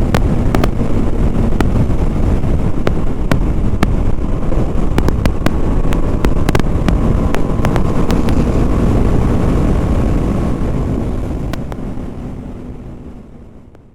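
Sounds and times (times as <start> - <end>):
motorcycle engine running: 0.0 - 13.9
wind rush on microphone: 0.0 - 13.9.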